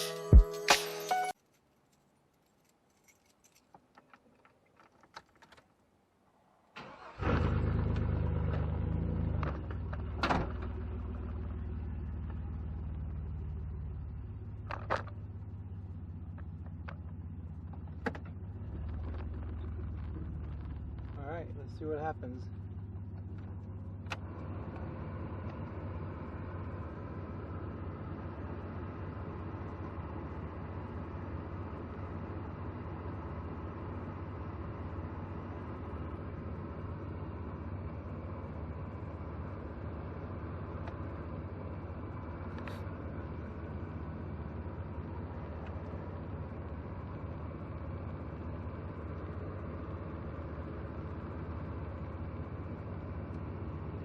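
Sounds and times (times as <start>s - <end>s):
car engine idling: 6.0s - 54.0s.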